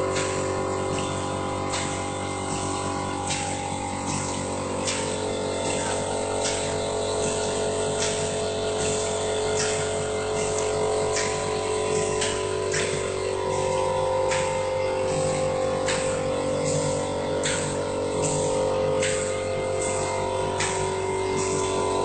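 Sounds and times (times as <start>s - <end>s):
packing machine humming: 0.0s - 22.0s.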